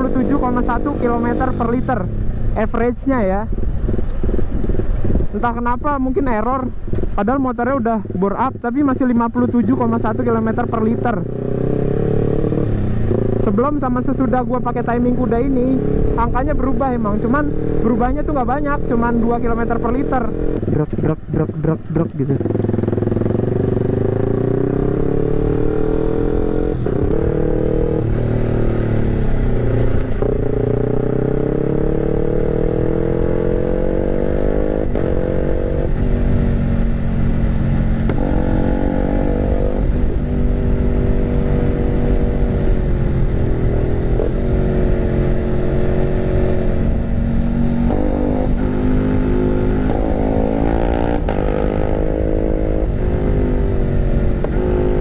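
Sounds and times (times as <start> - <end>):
motorcycle engine lumpy rumble: 0.0 - 55.0.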